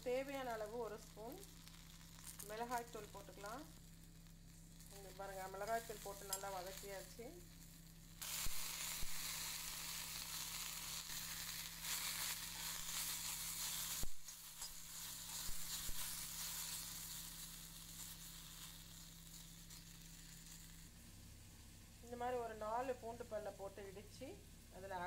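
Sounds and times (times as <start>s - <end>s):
okra sizzling in oil: 0.0s - 25.0s.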